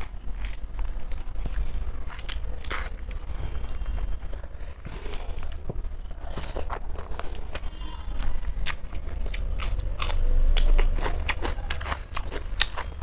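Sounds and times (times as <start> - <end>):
person eating: 0.0 - 13.0
steady low hum: 0.0 - 13.0.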